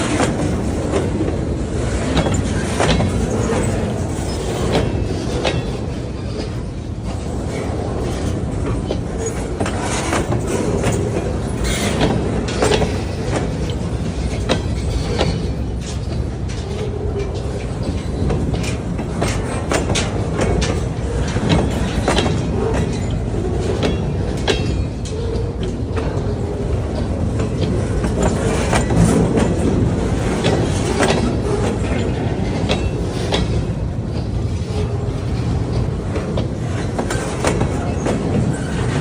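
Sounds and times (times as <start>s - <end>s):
train rumbling past: 0.0s - 39.0s
wheels clacking over rails: 0.0s - 39.0s.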